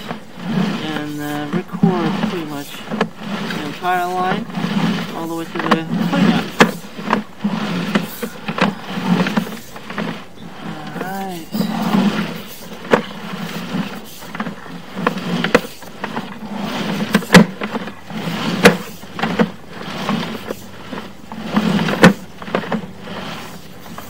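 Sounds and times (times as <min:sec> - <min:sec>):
cable rubbing and scraping: 0:00.0 - 0:24.0
low hum: 0:00.0 - 0:24.0.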